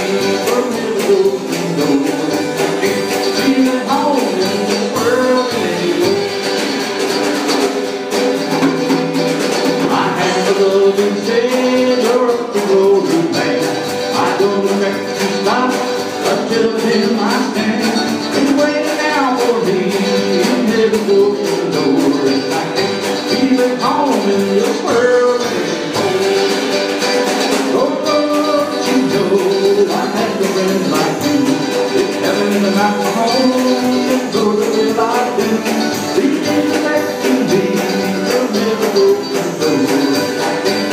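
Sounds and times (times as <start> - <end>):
man singing: 0.0 - 7.2, 9.5 - 40.9
drum kit: 0.0 - 40.9
mandolin: 0.0 - 40.9
strummed acoustic guitar: 0.0 - 40.9.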